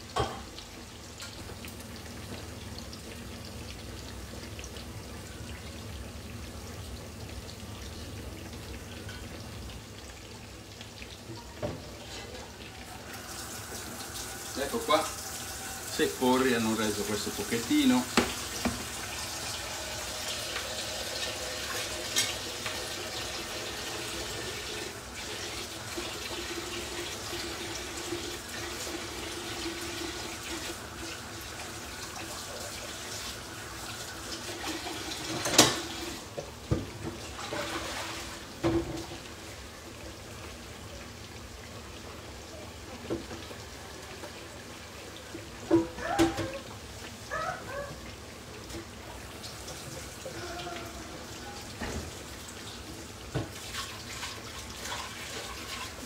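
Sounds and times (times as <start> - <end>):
slices frying in oil: 0.0 - 56.0.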